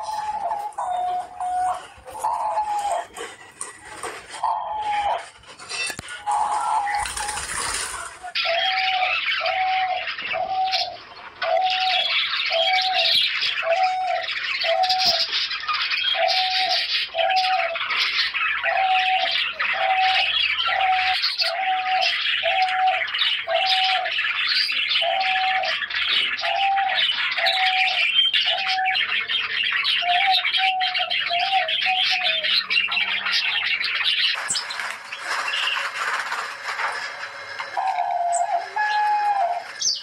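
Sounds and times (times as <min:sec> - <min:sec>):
dove cooing: 0:00.0 - 0:15.3, 0:16.0 - 0:40.0
high chirping of small birds: 0:00.0 - 0:40.0.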